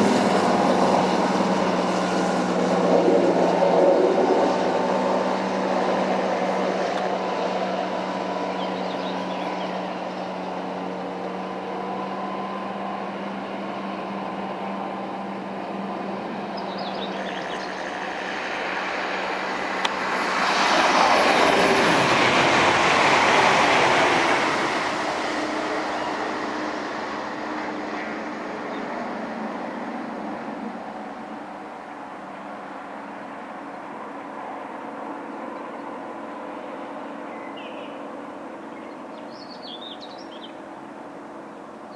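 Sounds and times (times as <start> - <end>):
broad rushing noise: 0.0 - 41.9
diesel locomotive engine drone: 0.0 - 41.9.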